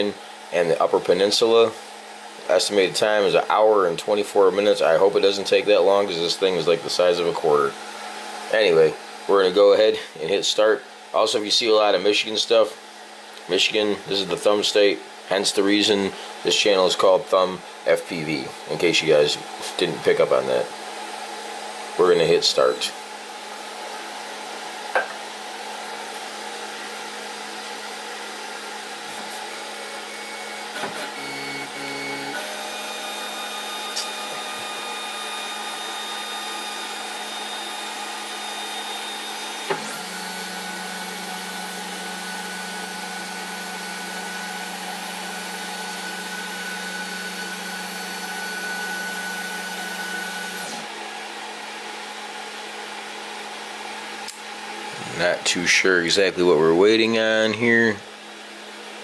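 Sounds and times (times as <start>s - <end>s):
fan hum: 0.0s - 42.2s, 50.6s - 59.0s.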